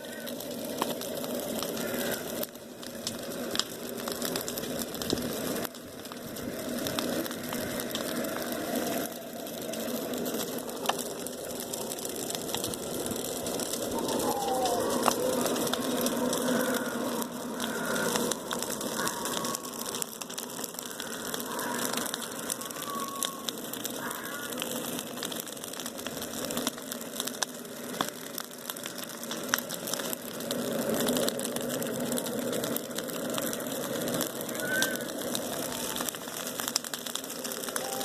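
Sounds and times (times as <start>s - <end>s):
bonfire crackling: 0.0s - 38.0s.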